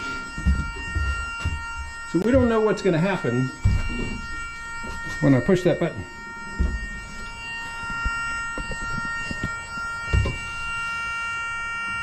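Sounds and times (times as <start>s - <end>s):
electronic alarm tone: 0.0s - 12.0s.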